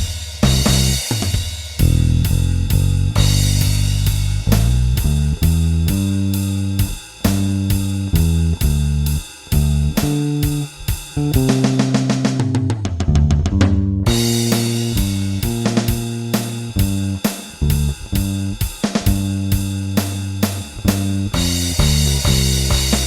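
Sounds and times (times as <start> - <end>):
drum kit beat: 0.0 - 23.0
electric bass blues line: 0.4 - 1.2, 1.8 - 23.0.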